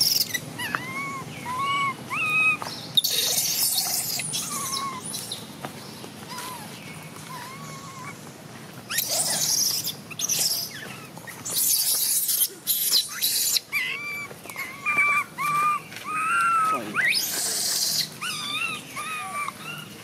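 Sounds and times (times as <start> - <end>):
baby monkey screaming and whimpering: 0.0 - 5.4, 6.3 - 8.2, 8.9 - 20.0.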